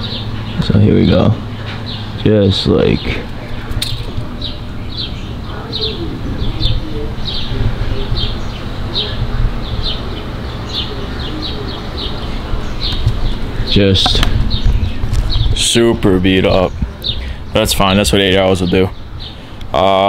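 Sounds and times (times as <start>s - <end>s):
bird chirping: 0.0s - 20.0s
low steady rumble: 0.0s - 20.0s.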